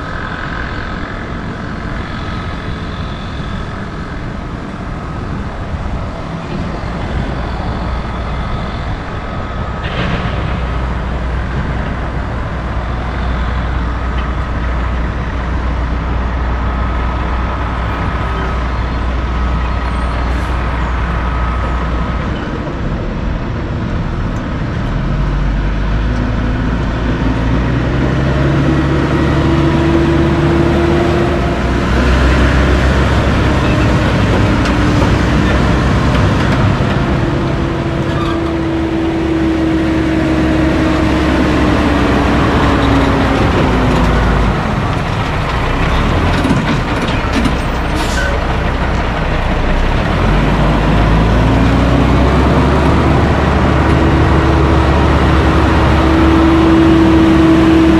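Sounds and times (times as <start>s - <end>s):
diesel truck engine rumble: 0.0s - 57.9s
dump truck passing by: 0.0s - 57.9s.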